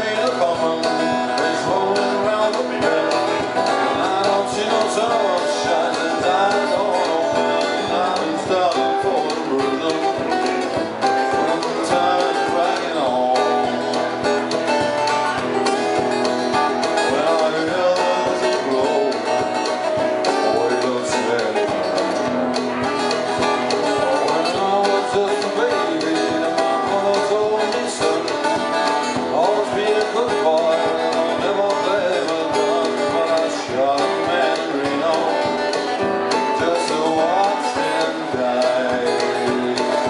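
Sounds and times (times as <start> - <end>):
acoustic guitars playing country: 0.0 - 40.0.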